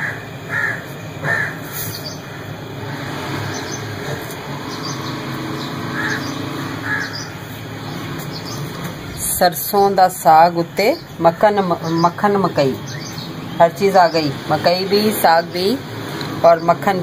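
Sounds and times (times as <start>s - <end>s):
bird calling: 0.0s - 16.9s.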